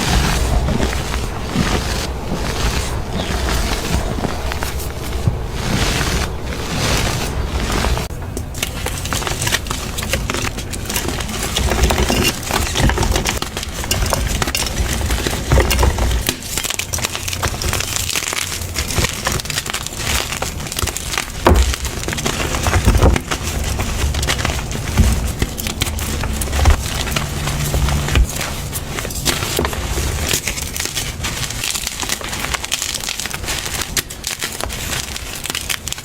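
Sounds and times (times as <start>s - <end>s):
chalk being crushed by hand: 0.0s - 36.0s.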